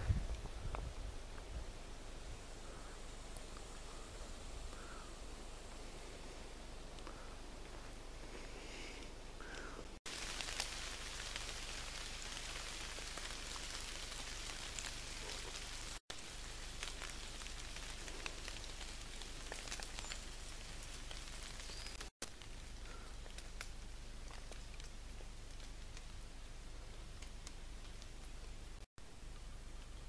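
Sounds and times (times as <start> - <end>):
hissing forest ambience: 0.0 - 30.0.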